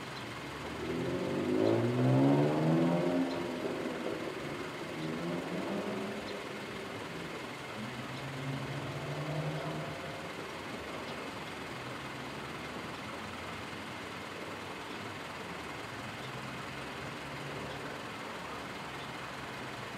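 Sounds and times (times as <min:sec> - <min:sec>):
vehicle engine running: 0:00.0 - 0:19.9.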